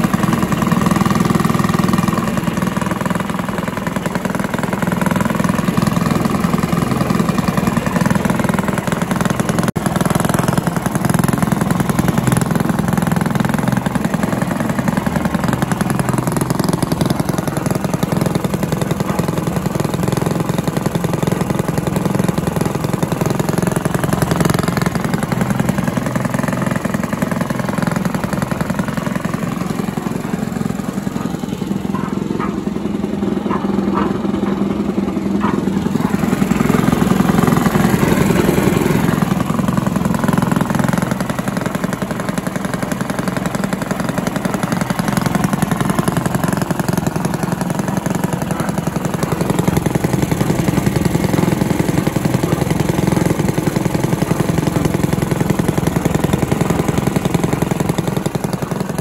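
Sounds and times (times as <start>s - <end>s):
cement mixer engine running: 0.0s - 59.0s.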